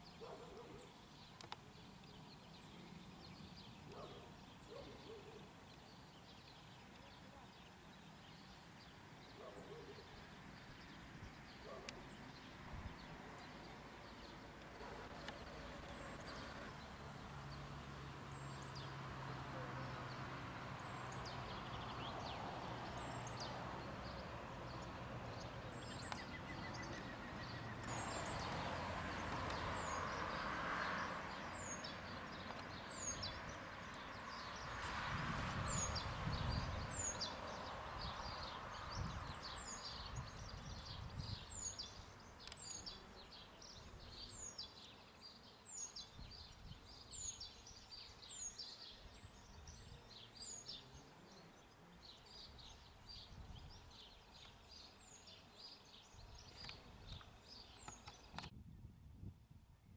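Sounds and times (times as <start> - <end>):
small birds chirping: 0.0 - 34.9, 35.5 - 58.5.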